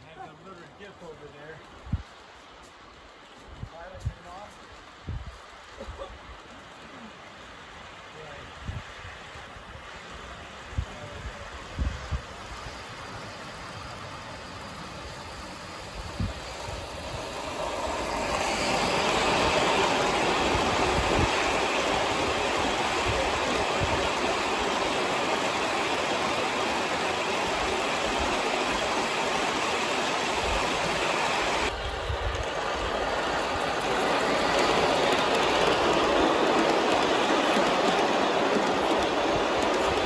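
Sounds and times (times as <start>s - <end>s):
model train wheels rolling on rails: 0.0s - 40.0s.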